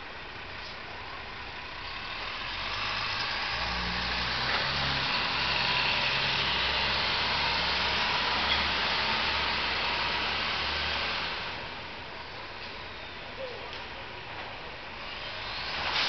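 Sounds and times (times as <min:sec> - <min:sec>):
bus diesel engine pulling away: 0:00.4 - 0:13.3, 0:14.1 - 0:16.0.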